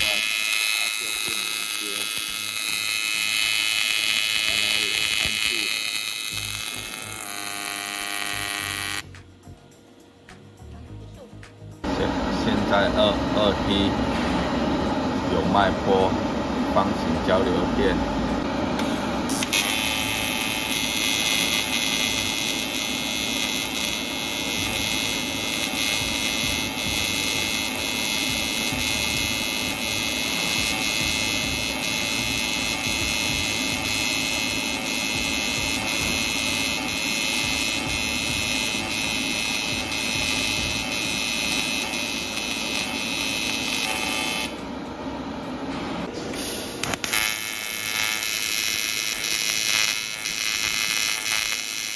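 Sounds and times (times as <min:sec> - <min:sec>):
welding arc pulsing buzz: 0:00.0 - 0:09.5, 0:11.4 - 0:51.9.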